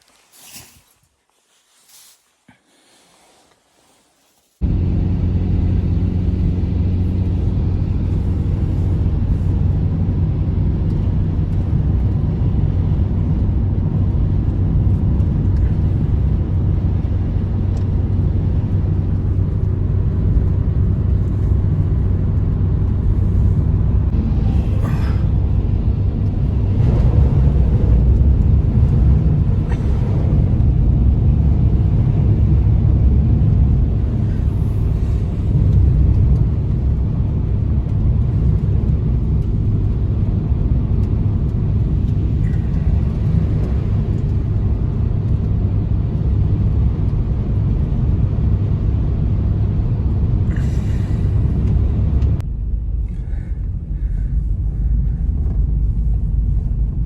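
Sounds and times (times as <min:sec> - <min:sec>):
blizzard wind rumble: 0:00.0 - 0:57.0.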